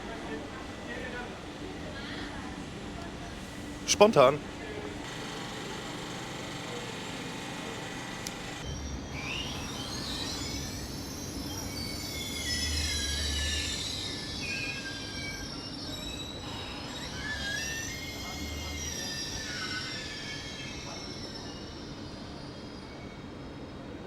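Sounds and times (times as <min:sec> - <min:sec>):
train wheels squealing on rails: 0:00.0 - 0:24.0.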